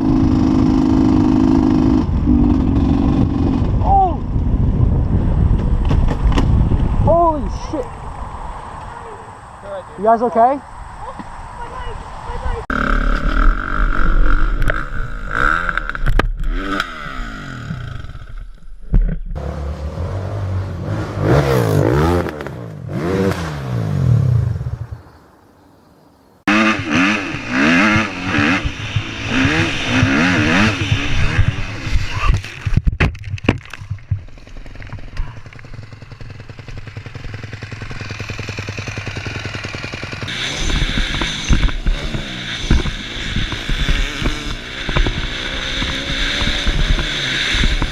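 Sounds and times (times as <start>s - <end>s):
motorcycle engines revving: 0.0s - 4.6s, 6.1s - 18.4s, 19.4s - 25.1s, 26.4s - 32.7s, 34.2s - 47.9s.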